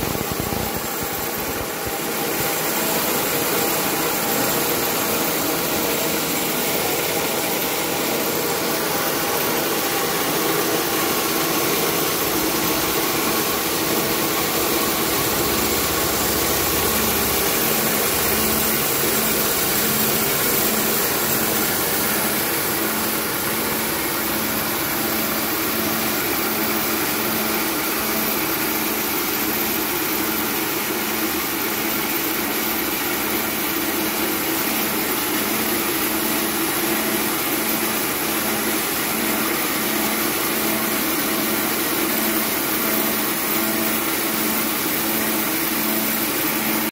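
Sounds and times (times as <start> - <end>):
rice milling machine drone: 0.0 - 46.9.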